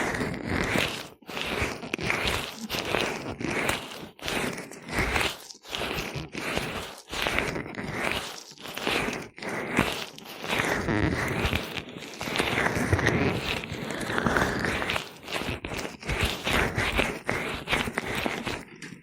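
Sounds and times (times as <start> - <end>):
gloved hands rubbing oil on microphone: 0.0 - 19.0.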